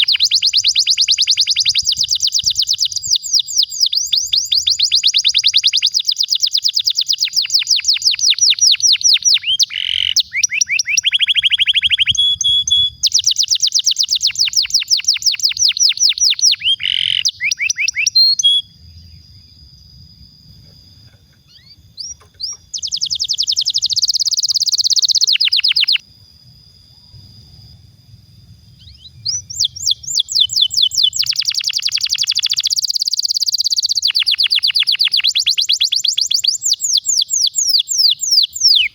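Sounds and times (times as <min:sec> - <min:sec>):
canary singing trills: 0:00.0 - 0:19.6, 0:20.6 - 0:26.0, 0:28.7 - 0:38.9.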